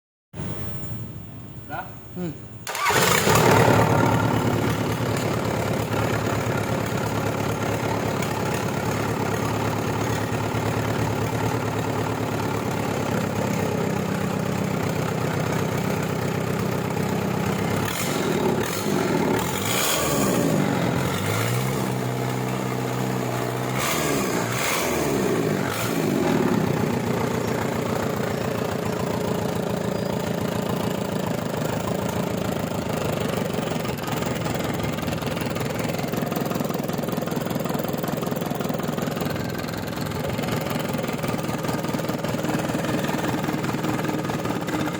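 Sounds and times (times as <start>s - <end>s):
diesel engine idling and revving: 2.7s - 44.9s.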